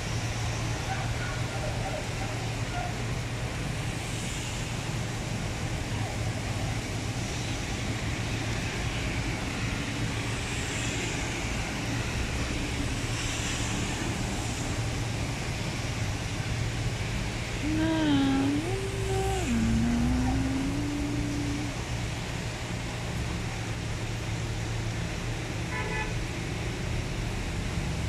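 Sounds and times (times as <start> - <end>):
heavy rain falling: 0.0 - 28.0
traffic passing on wet road: 0.0 - 28.0.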